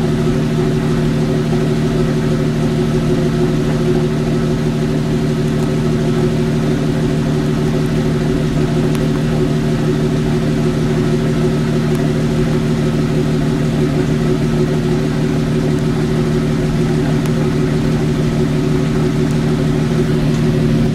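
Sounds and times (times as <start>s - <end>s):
steady engine and driveline drone: 0.0s - 20.9s.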